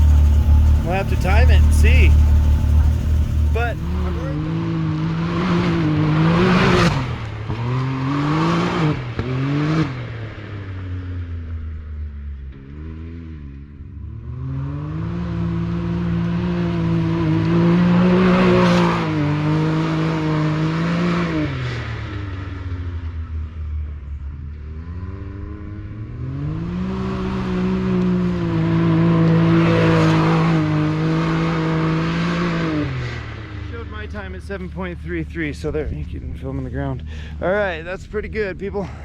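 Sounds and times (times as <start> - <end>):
utv engine accelerating hard: 0.0 - 38.9.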